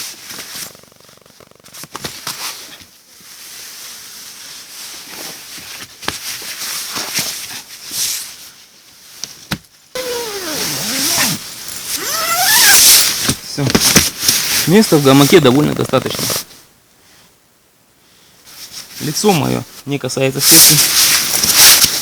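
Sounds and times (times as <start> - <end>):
hammock fabric rustling: 0.0 - 8.8, 10.0 - 16.6, 18.5 - 22.0.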